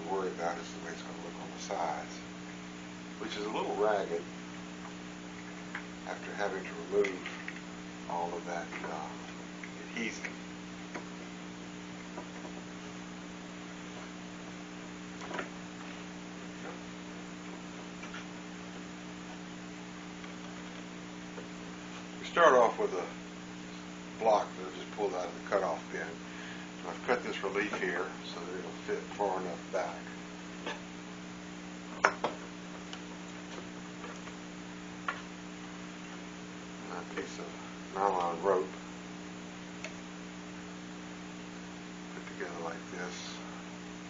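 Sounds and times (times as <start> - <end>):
electrical hum: 0.0 - 44.0.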